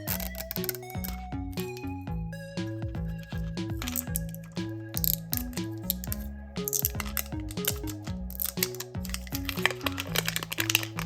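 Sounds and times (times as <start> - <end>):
bouncy instrumental music: 0.0 - 11.0.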